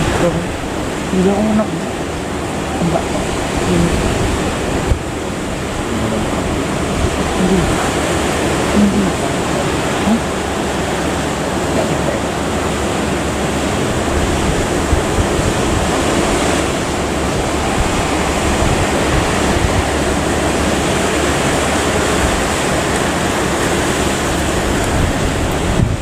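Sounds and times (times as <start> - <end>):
waves rushing against ship: 0.0 - 26.0
wind buffeting microphone: 0.0 - 26.0.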